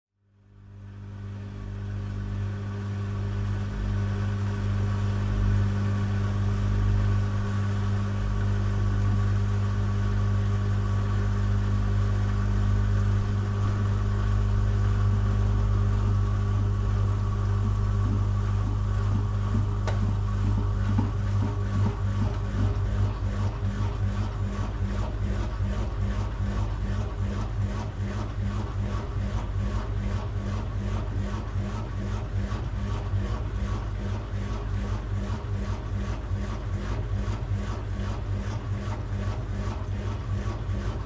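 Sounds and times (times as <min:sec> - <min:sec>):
laundry machines humming: 0:00.6 - 0:41.0.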